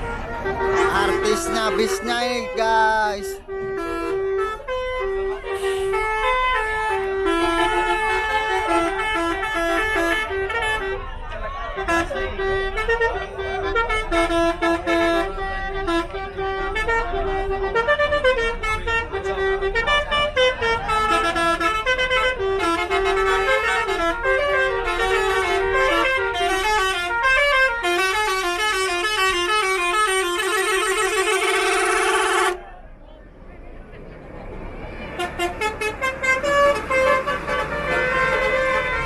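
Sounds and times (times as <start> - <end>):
multi-tone bus horn melody: 0.0 - 32.8, 35.0 - 39.0.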